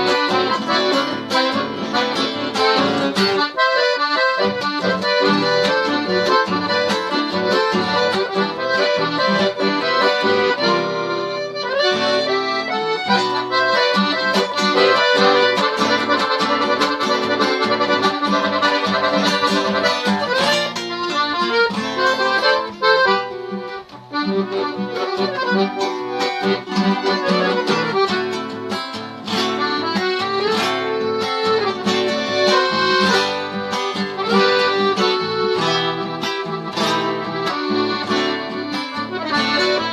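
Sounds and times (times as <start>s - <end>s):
accordion tune: 0.0s - 39.9s
guitar accompaniment: 0.0s - 39.9s.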